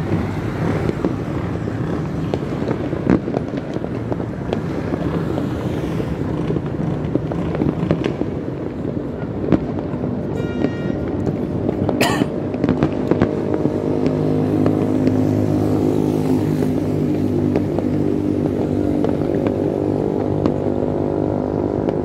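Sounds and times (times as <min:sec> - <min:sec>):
distant firecrackers popping: 0:00.0 - 0:22.0.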